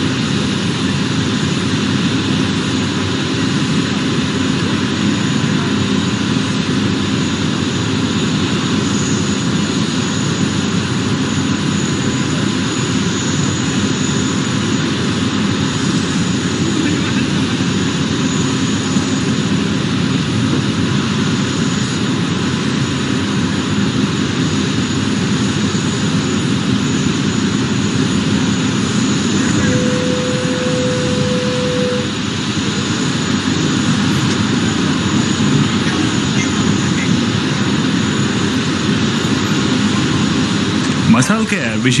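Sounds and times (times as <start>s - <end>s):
aircraft engine rush: 0.0s - 42.0s.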